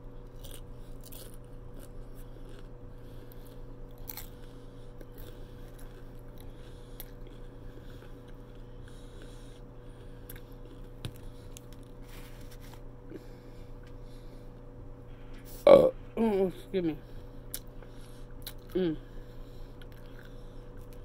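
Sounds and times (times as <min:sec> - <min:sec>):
chewing crunchy fried food: 0:00.0 - 0:14.7, 0:17.3 - 0:21.0
steady low hum: 0:00.0 - 0:21.0.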